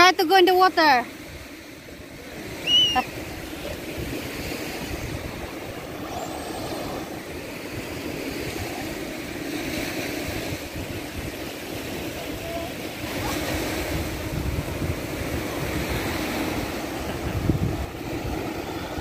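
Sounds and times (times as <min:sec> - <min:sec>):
waves breaking: 0:00.0 - 0:19.0
wind on microphone: 0:01.2 - 0:19.0.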